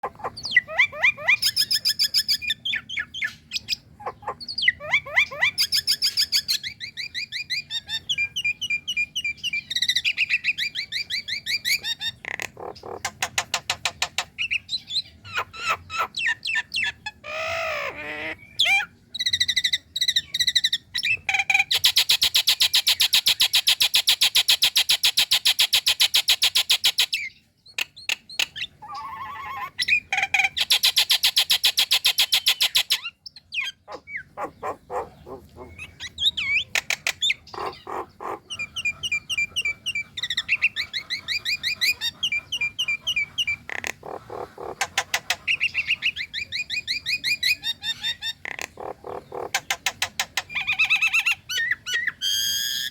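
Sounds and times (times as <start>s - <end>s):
bird whistles and trills: 0.0s - 52.9s.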